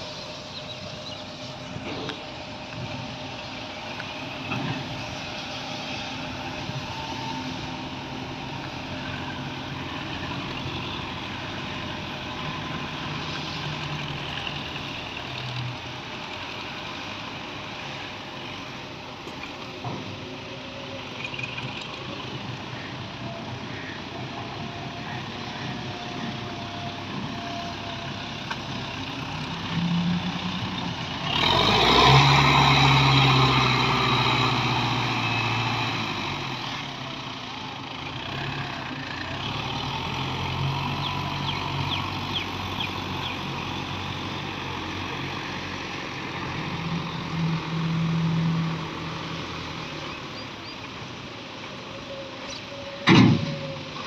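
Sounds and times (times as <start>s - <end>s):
tractor diesel engines revving: 0.0s - 54.0s.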